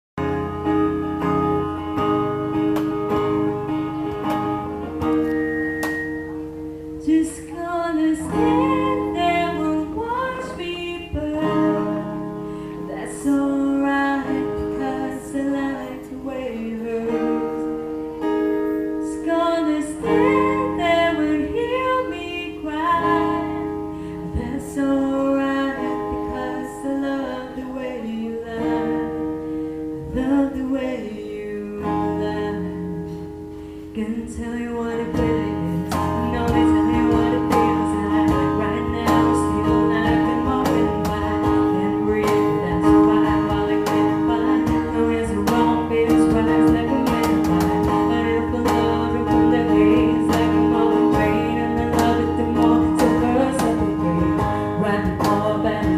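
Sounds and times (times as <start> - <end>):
acoustic guitar playing: 0.2 - 55.9
person singing: 0.2 - 55.9.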